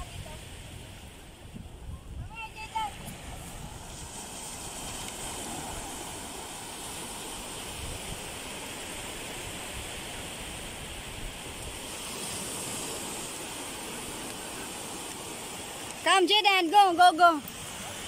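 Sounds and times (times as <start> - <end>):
small surf breaking on beach: 0.0 - 18.0
wind rumbling on microphone: 0.0 - 18.0.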